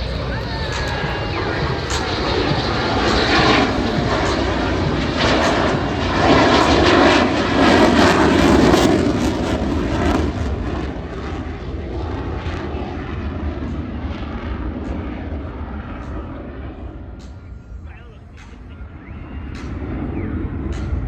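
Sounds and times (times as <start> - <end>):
jet engine passing: 0.0 - 21.0.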